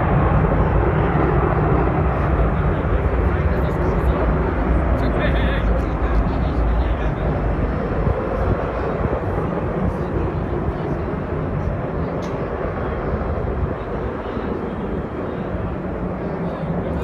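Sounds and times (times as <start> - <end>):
airplane engine noise: 0.0 - 17.0.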